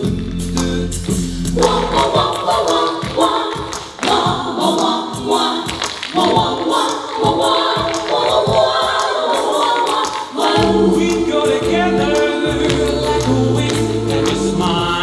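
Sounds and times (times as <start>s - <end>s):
percussive beat: 0.0s - 15.0s
vocal group singing in harmony: 0.0s - 15.0s.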